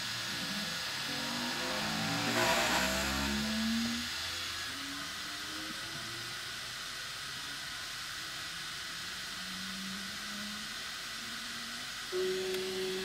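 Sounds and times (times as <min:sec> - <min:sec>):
steady fan hiss: 0:00.0 - 0:13.0.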